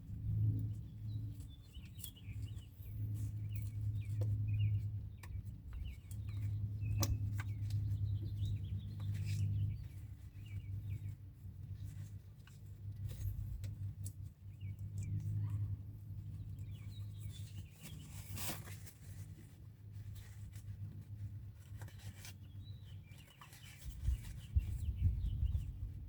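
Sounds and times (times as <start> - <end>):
steady low hum: 0.0 - 26.0
small birds chirping: 0.1 - 26.0.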